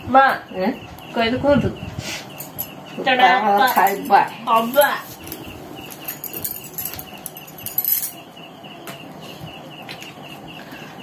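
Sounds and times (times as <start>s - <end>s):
high chirping: 0.0s - 11.0s.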